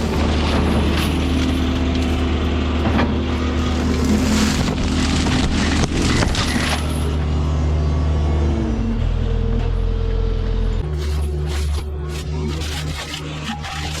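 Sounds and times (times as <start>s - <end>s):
excavator diesel engine under load: 0.0s - 12.8s.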